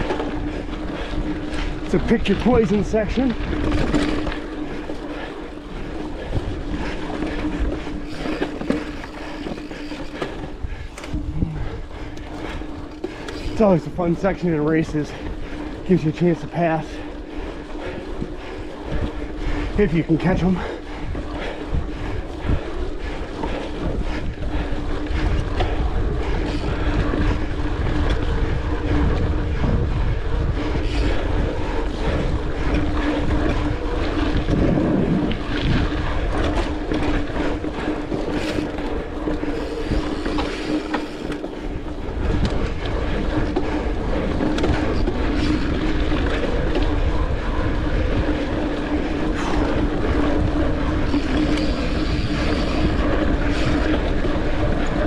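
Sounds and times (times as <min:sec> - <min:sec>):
bike clicks and rattles: 0:00.0 - 0:55.0
bike rolling hum: 0:00.0 - 0:55.0
wind rumble on microphone: 0:00.0 - 0:55.0.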